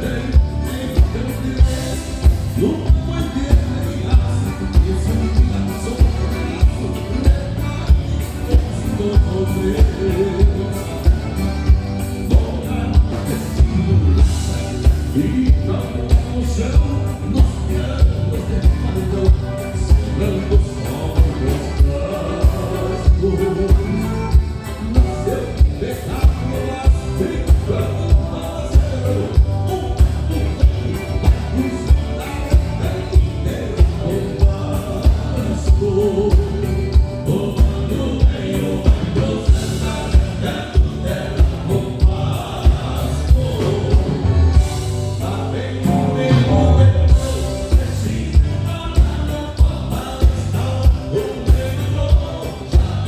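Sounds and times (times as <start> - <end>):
live band music: 0.0 - 53.0
voices singing: 0.0 - 53.0.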